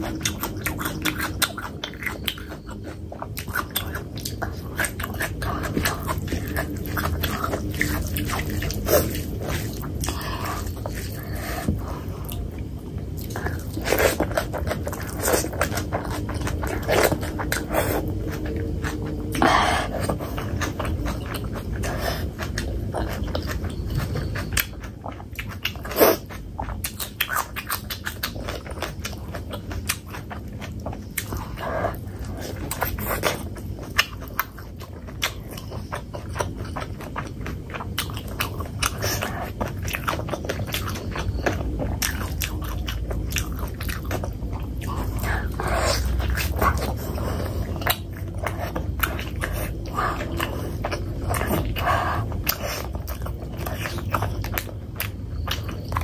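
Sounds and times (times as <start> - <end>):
wet chewing and smacking: 0.0 - 56.0.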